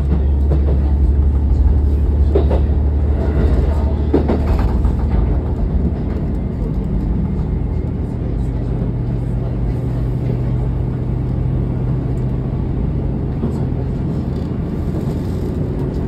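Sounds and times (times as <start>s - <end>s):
diesel engine drone: 0.0s - 16.0s
wheels clacking on rails: 0.0s - 16.0s.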